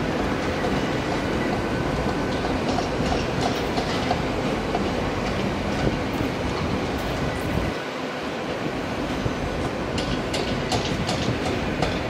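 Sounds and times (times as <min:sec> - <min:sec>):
wheels clicking over track: 0:00.0 - 0:07.6, 0:09.6 - 0:12.0
train rumbling: 0:00.0 - 0:12.0.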